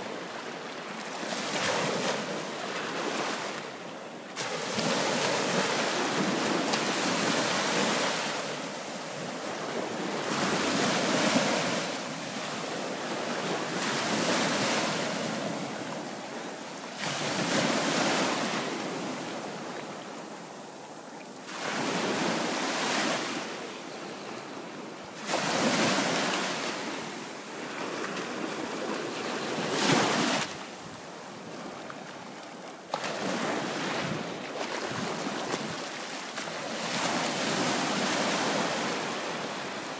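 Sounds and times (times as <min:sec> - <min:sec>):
small waves washing on sand: 0:00.0 - 0:39.9.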